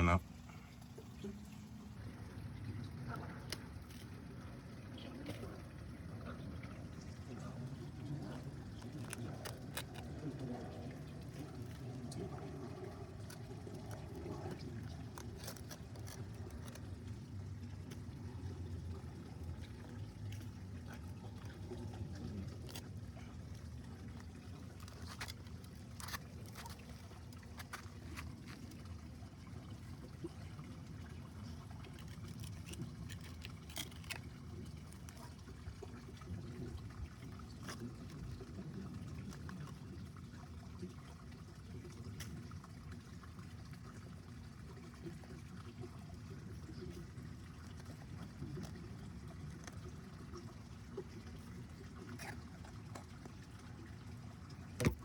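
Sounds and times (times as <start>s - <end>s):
waterfall pouring: 1.7s - 55.0s.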